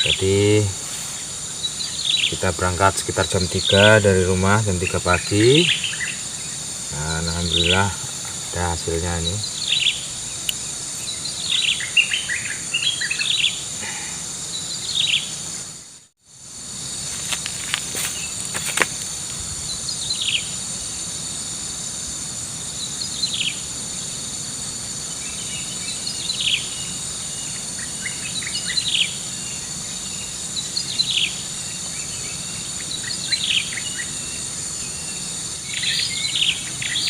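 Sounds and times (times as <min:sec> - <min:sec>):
crickets chirring: 0:00.0 - 0:37.0.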